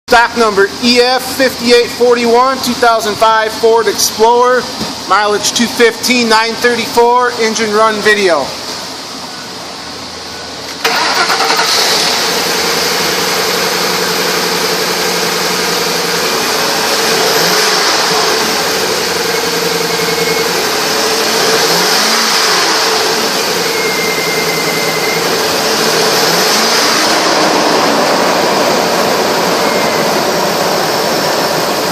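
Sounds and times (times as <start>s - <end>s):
car engine cranking and running: 0.1s - 31.9s.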